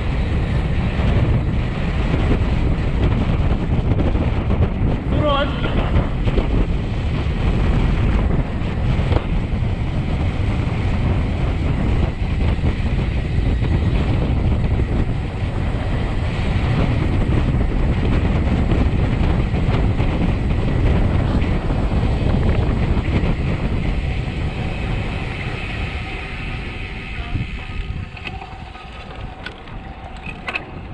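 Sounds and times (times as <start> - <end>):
wind rushing over microphone: 0.0 - 30.9.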